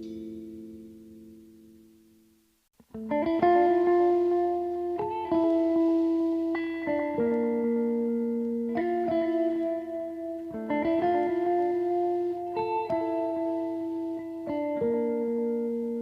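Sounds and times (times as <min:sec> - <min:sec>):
slow plucked guitar chords: 0:00.0 - 0:16.0.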